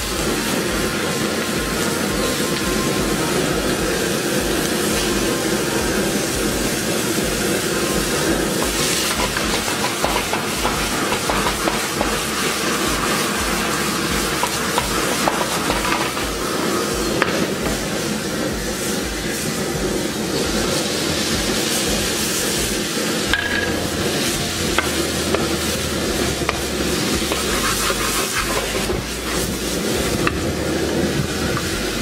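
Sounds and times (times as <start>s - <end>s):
low rumble of gas flame: 0.0s - 32.0s
meat sizzling in a wok: 0.0s - 32.0s.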